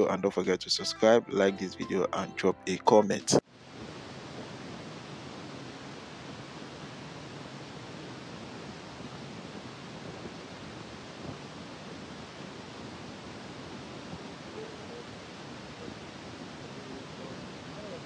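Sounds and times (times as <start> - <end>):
steady hiss: 3.5 - 18.0.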